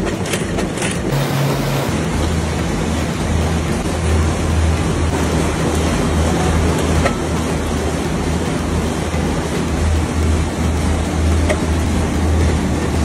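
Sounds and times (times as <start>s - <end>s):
factory machinery humming: 1.1s - 13.0s
mechanical rumble: 1.1s - 13.0s.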